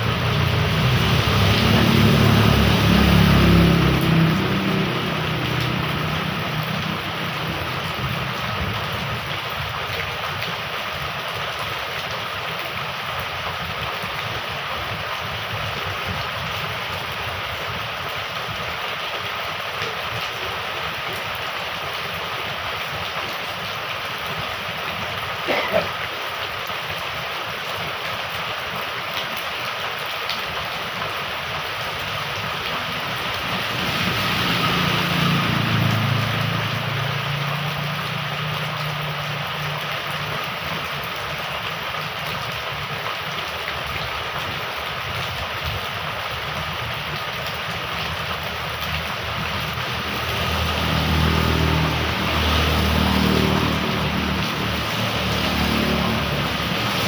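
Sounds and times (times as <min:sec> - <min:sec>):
gurgling running water: 0:00.0 - 0:57.0
heavy rain pouring: 0:00.0 - 0:57.0.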